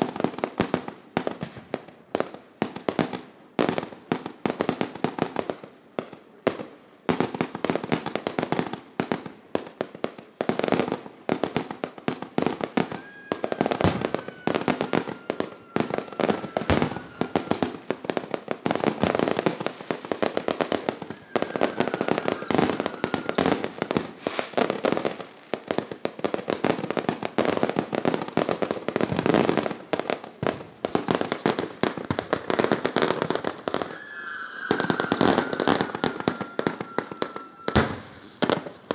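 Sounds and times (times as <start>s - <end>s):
fireworks pops and bangs: 0.0s - 38.9s
falling firework whistle: 0.3s - 38.9s.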